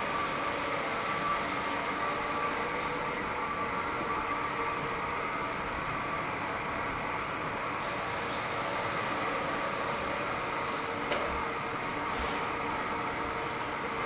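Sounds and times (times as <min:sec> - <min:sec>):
ceiling fans humming: 0:00.0 - 0:14.0.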